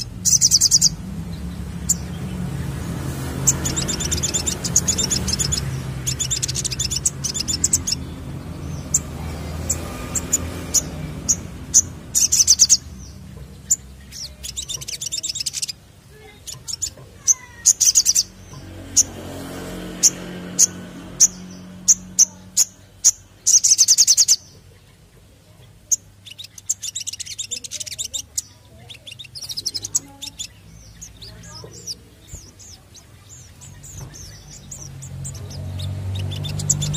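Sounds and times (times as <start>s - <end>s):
bird chips and fast trills: 0.0s - 24.6s, 25.9s - 36.9s.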